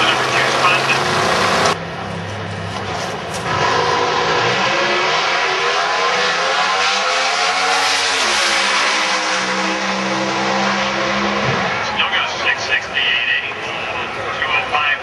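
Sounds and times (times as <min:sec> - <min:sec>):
drag racing engines at full throttle: 0:00.0 - 0:15.0.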